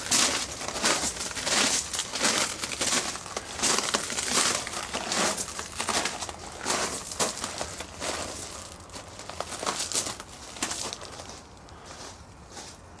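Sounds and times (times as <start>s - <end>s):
footsteps crunching on loose ground: 0.0s - 13.0s.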